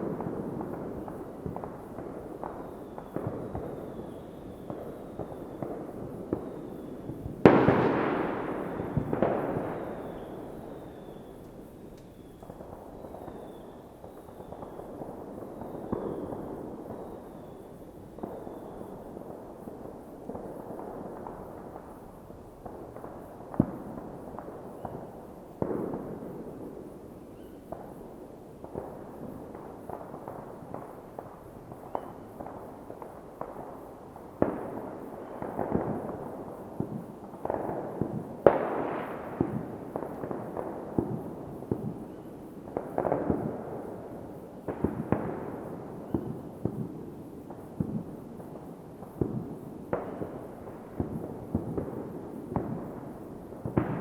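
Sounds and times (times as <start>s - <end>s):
fireworks bangs and booms: 0.0s - 54.0s.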